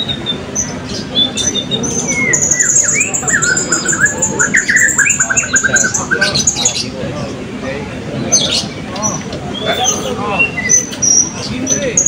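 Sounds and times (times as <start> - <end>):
parrots trilling and chirping: 0.0 - 7.0, 8.3 - 12.0.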